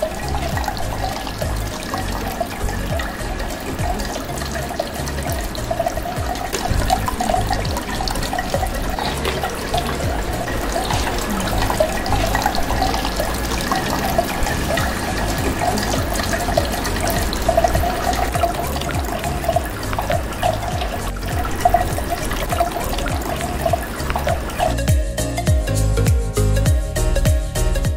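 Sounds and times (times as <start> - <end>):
fountain water trickling: 0.0 - 27.9.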